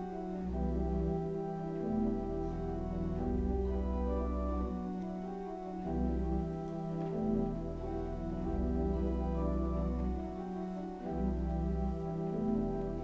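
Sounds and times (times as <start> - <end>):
organ playing slow chords: 0.0 - 13.0.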